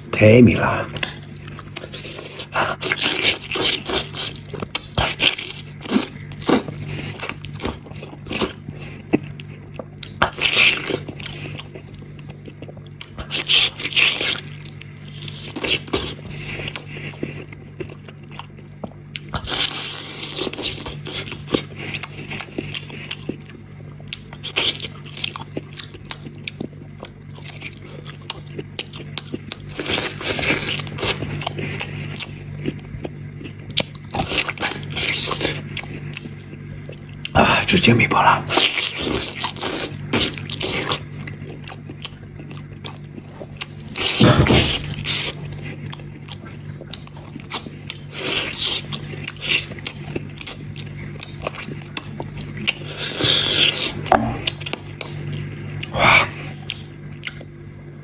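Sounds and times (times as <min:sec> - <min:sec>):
faint low hum: 0:00.0 - 0:58.0
wet biting and chewing: 0:00.9 - 0:57.6.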